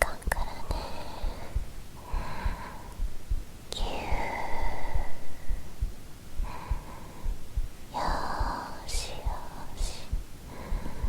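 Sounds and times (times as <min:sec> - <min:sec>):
heartbeat thumps: 0:00.0 - 0:11.0
soft breathy sounds: 0:00.0 - 0:11.0.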